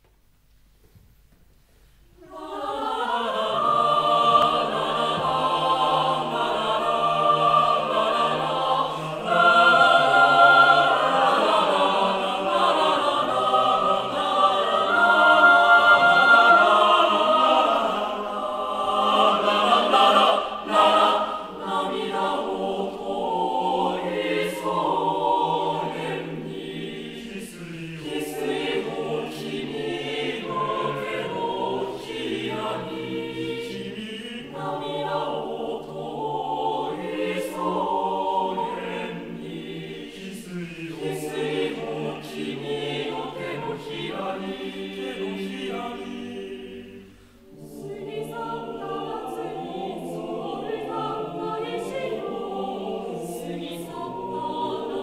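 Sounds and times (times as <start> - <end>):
mixed choir singing: 2.2 - 55.0.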